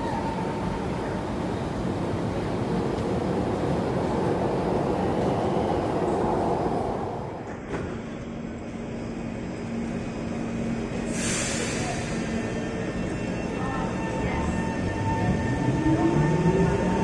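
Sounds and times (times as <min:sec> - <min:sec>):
train departing with low hum: 0:00.0 - 0:17.0
train rumbling past: 0:00.0 - 0:17.0.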